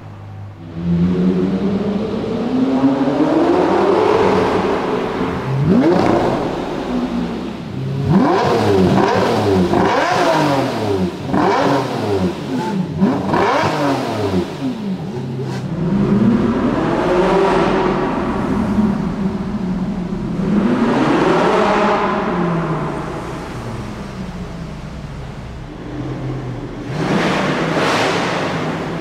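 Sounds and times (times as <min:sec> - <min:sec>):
sports car engine accelerating: 0:00.2 - 0:29.0
car engine revving: 0:00.3 - 0:29.0.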